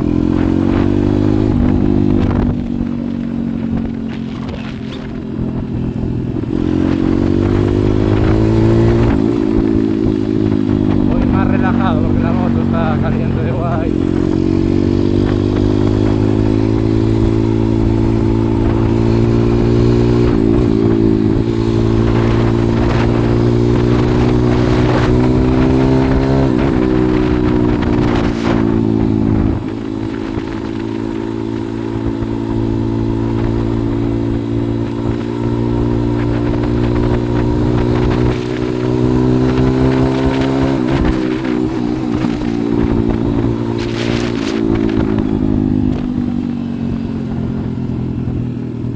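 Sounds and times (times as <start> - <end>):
motorbike engine running: 0.0 - 48.9.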